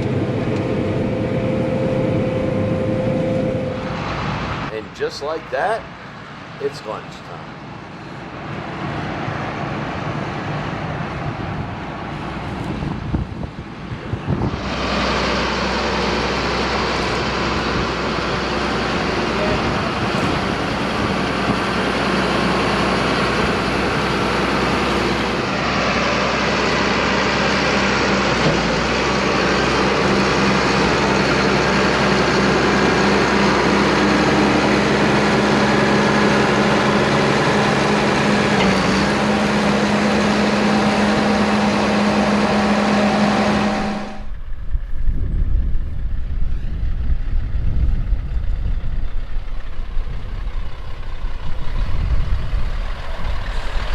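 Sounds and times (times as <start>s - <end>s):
diesel farm machinery drone: 0.0s - 53.9s.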